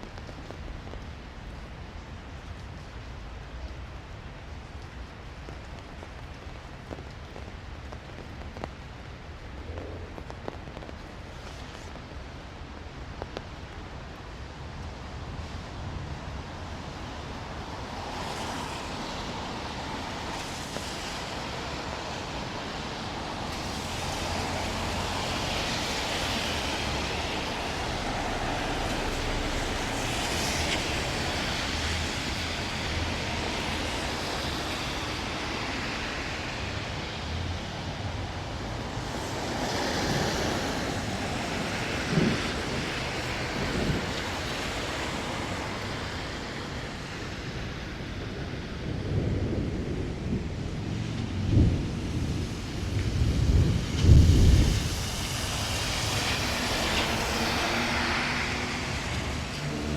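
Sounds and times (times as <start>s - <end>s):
rain hiss: 0.0s - 59.9s
tyres on wet road: 0.0s - 59.9s.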